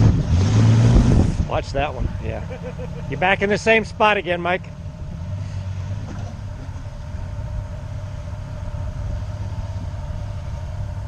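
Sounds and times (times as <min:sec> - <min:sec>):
vehicle engine idling: 0:01.0 - 0:11.0.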